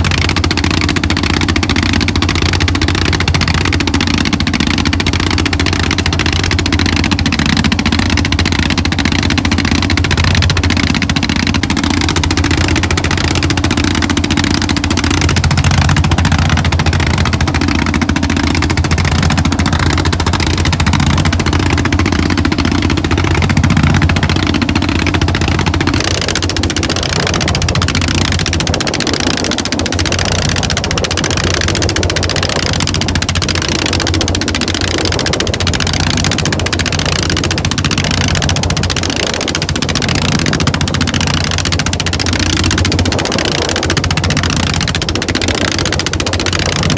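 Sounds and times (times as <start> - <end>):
boat engine running: 0.0 - 46.9.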